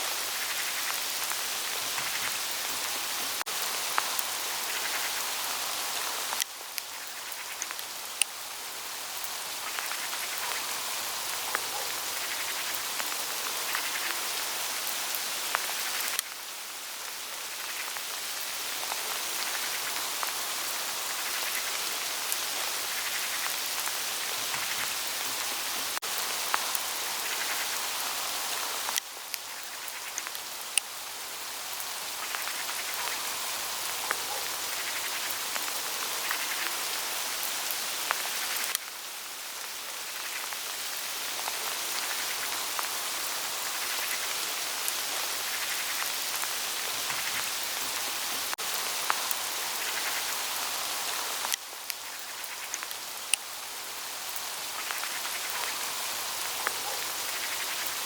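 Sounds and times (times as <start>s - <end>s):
hail falling on leaves: 0.0s - 58.0s.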